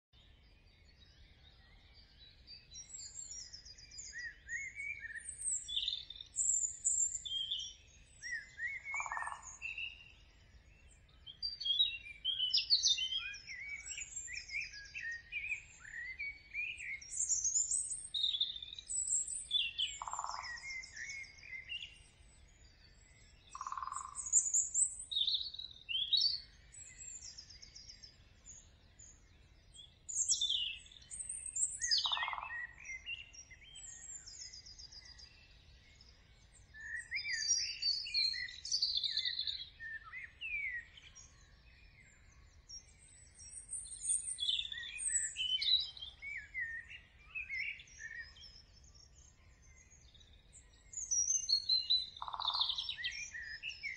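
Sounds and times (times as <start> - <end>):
small birds chirping and trilling: 0.0 - 53.9.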